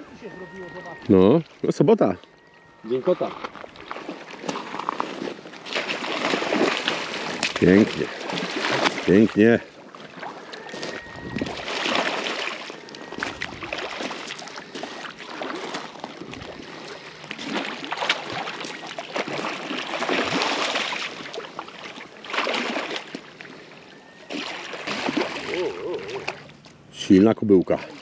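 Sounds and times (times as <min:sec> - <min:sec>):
rushing splashing water: 0:03.1 - 0:23.4, 0:24.3 - 0:26.5.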